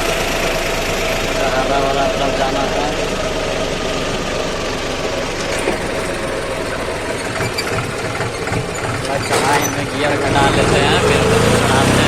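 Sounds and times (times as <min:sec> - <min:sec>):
tractor engine pulsing: 0:00.0 - 0:12.0.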